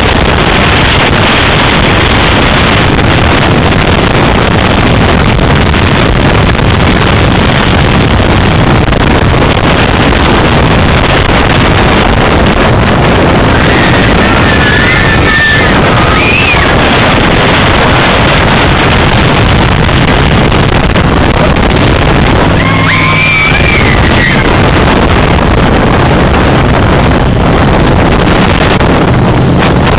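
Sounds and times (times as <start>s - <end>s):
buggy engine noise: 0.0s - 29.9s
wind buffeting microphone: 0.0s - 29.9s.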